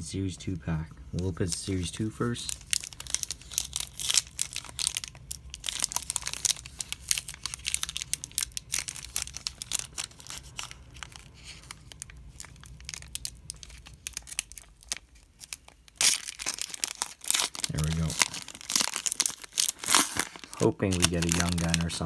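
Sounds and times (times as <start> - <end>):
foil wrapper crinkling and tearing: 1.2 - 22.0.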